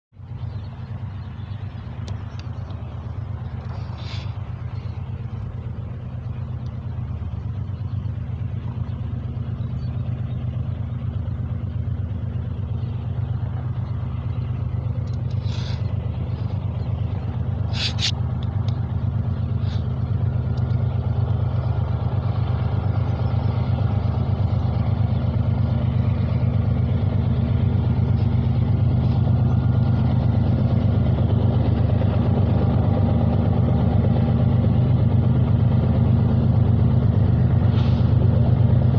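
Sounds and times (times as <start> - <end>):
diesel locomotive engine drone: 0.1 - 38.9.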